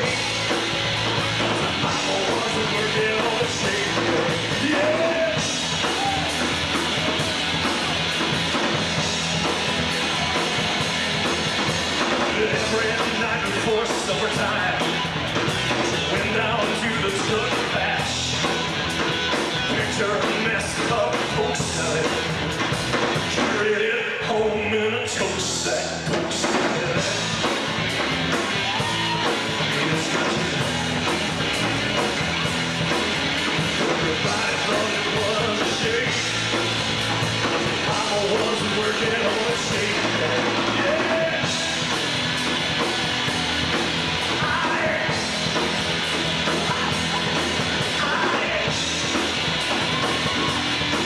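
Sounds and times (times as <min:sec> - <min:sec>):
drum kit steady beat: 0:00.0 - 0:23.7, 0:26.0 - 0:51.0
electric guitar: 0:00.0 - 0:24.3, 0:25.2 - 0:51.0
live rock band instrumental: 0:00.0 - 0:24.4, 0:25.1 - 0:51.0.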